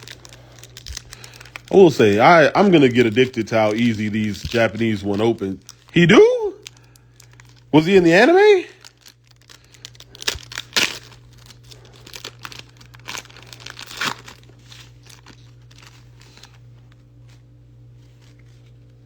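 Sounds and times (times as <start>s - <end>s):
foil wrapper tearing and crinkling: 0.0s - 17.4s
cards rustling: 0.0s - 19.0s.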